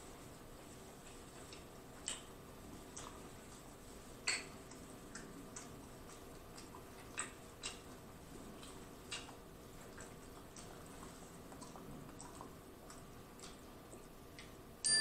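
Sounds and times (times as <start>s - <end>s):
person chewing food: 0.4s - 14.6s.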